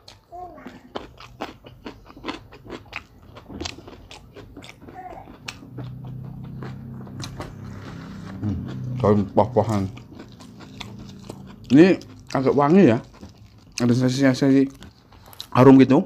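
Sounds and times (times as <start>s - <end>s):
person chewing with wet clicks: 0.0s - 15.6s.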